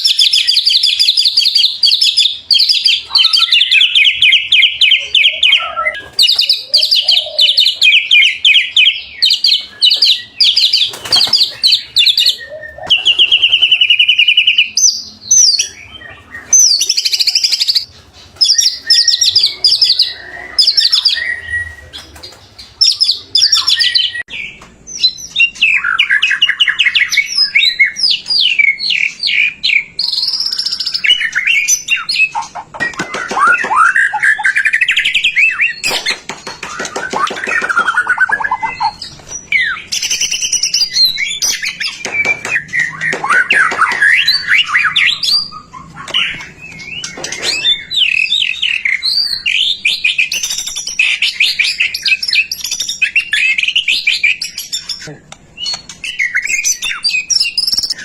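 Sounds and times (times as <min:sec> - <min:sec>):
songbird singing trills: 0:00.0 - 0:58.0.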